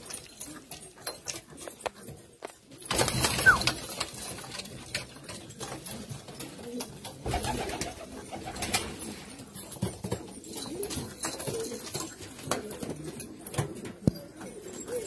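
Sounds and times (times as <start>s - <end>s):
pigeons cooing: 0.1s - 9.1s, 10.0s - 15.0s.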